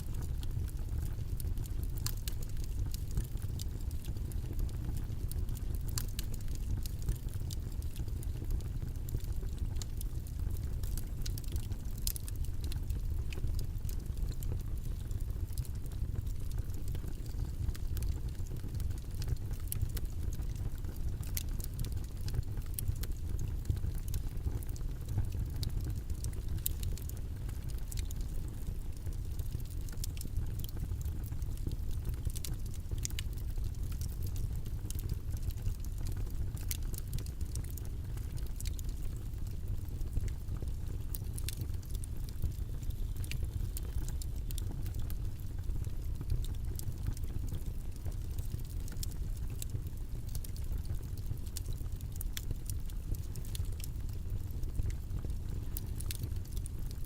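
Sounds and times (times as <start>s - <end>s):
faint clicks and ticks: 0.0s - 57.0s
low rumbling background noise: 0.0s - 57.0s.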